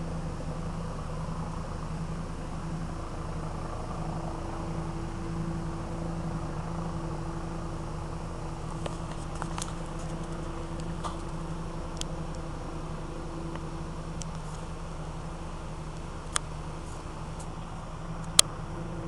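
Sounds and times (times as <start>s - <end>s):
engine droning with flutter: 0.0s - 19.0s.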